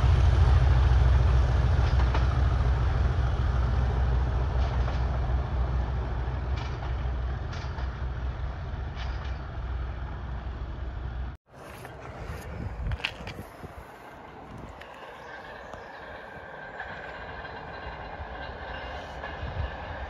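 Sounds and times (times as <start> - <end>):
diesel train engine rumble: 0.0 - 20.0.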